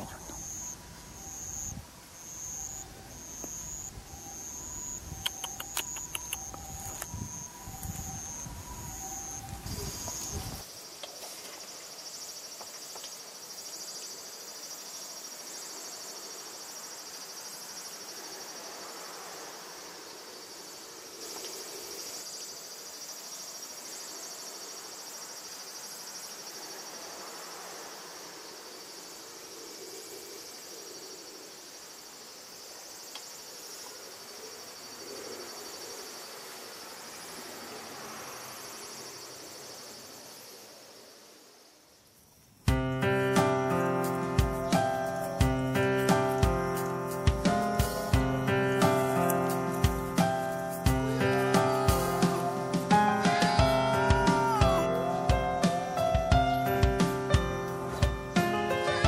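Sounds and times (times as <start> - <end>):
high insect drone: 0.0 - 59.0
insect chirping: 0.0 - 59.0.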